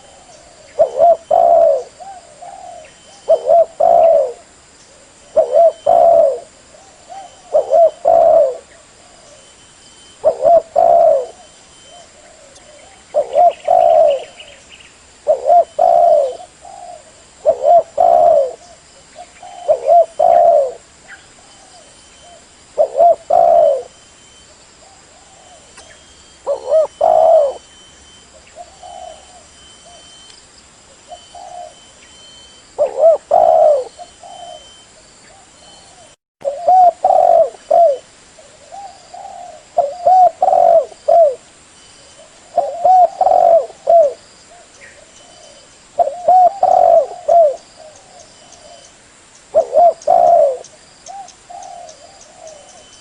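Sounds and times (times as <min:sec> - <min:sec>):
dove cooing: 0:00.0 - 0:14.6, 0:15.2 - 0:24.0, 0:24.8 - 0:30.2, 0:30.9 - 0:48.9, 0:49.5 - 0:53.0.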